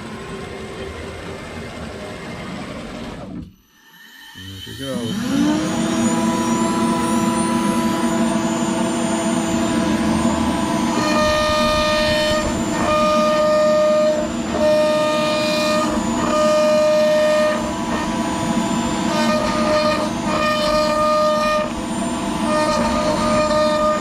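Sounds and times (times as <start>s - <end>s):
router spindle whine: 0.0s - 24.0s
high singing tone of cutting bit: 3.6s - 24.0s.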